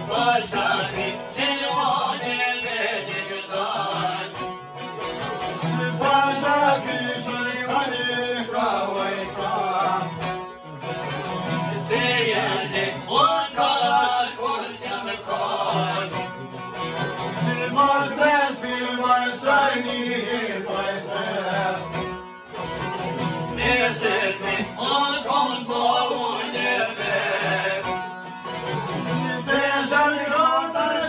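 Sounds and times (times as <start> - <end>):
lutes strummed and plucked: 0.0 - 31.0
man singing folk song: 0.0 - 31.0.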